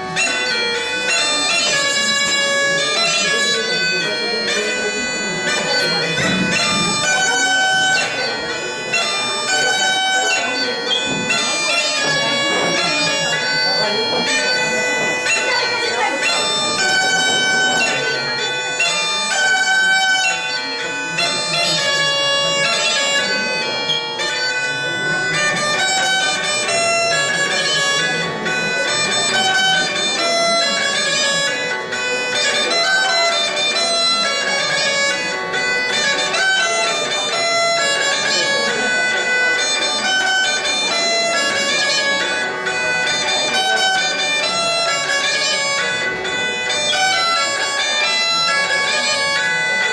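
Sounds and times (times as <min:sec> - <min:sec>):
bagpipes playing: 0:00.0 - 0:49.9.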